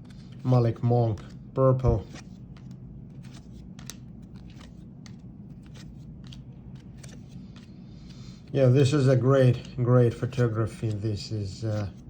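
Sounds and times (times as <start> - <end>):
low steady hum: 0.0 - 12.0
trading cards clicking and sliding: 0.0 - 12.0.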